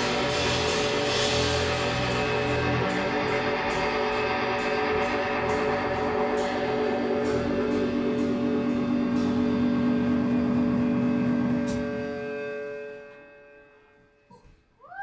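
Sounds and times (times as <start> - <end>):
guitar chords: 0.0 - 13.3
drums: 0.0 - 13.4.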